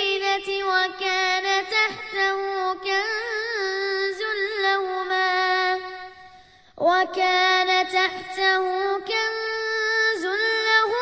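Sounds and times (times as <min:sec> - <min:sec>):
child chanting melodically: 0:00.0 - 0:11.0.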